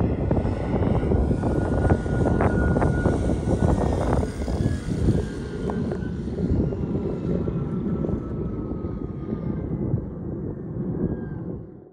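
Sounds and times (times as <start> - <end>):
low propeller rumble: 0.0 - 11.9
model turboprop turbine whine: 0.0 - 11.9.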